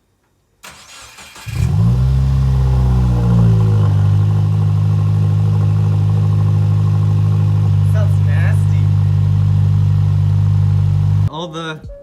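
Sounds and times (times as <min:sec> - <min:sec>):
engine cranking: 0:00.6 - 0:11.3
loud engine revving and idling: 0:01.4 - 0:11.3.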